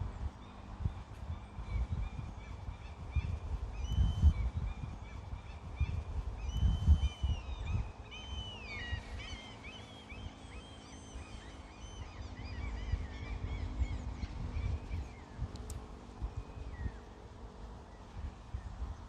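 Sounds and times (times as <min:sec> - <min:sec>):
birds calling: 0:00.2 - 0:17.2.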